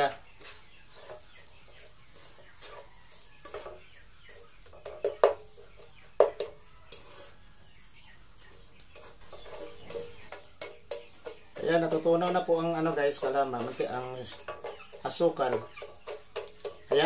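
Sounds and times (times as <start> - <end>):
wooden spatula scraping a pan: 0.0 - 17.0.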